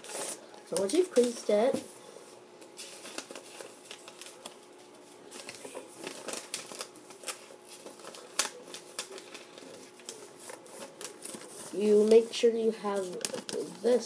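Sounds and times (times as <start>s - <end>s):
paper being folded and creased: 0.0s - 1.6s, 2.6s - 14.0s.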